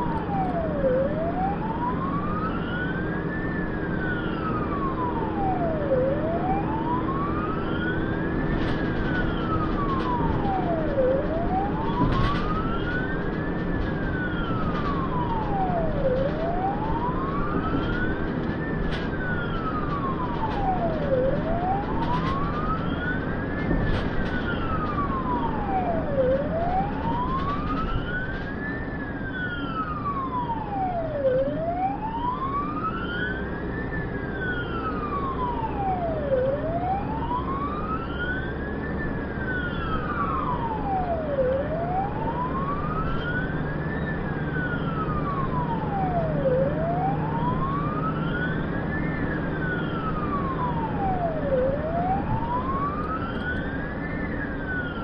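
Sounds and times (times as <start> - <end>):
engine and tyres rumbling: 0.0 - 55.0
siren wailing: 0.0 - 55.0.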